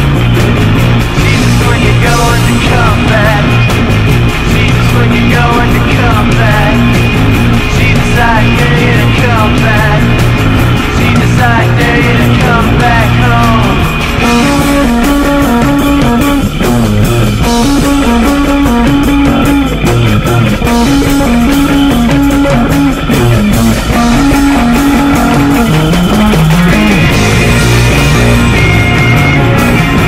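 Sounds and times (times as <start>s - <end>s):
bass guitar: 0.0s - 30.0s
electric guitar riff: 0.0s - 30.0s.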